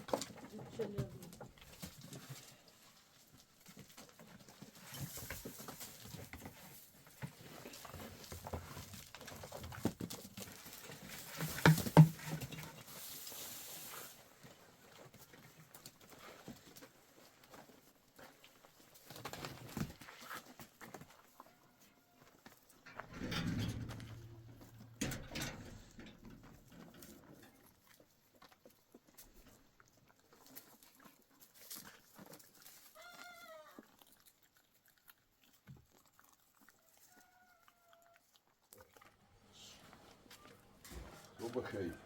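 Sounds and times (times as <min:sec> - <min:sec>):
animals knocking and shuffling: 0:00.0 - 0:33.9, 0:38.8 - 0:42.0.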